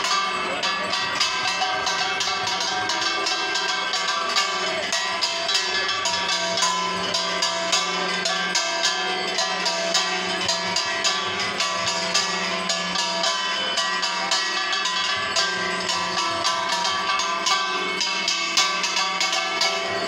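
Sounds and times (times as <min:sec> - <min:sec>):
hand cymbals struck: 0:00.0 - 0:20.0
metal bells ringing: 0:00.0 - 0:20.0.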